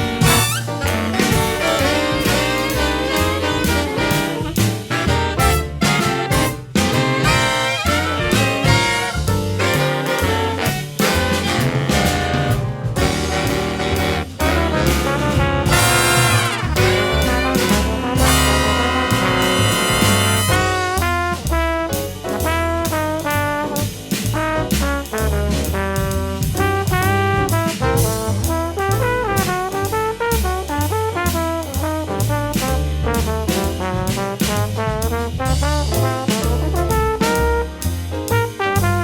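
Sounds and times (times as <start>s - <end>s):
big band jazz: 0.0s - 39.0s.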